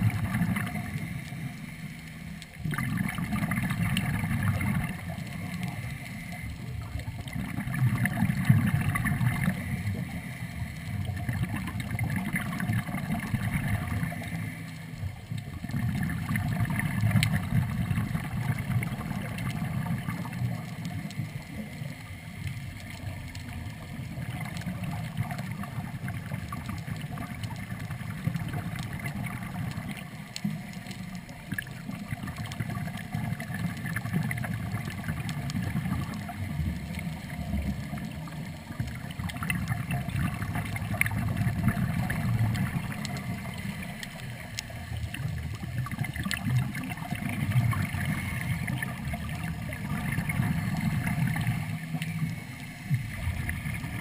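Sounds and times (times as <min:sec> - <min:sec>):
exhaled bubbles bubbling: 0:00.0 - 0:54.0.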